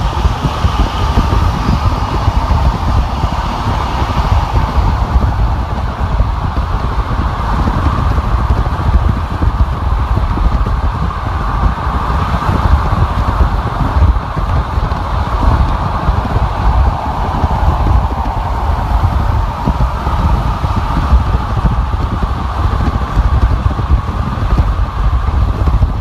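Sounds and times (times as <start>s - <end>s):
road rumble: 0.0s - 26.0s
wind hiss: 0.0s - 26.0s.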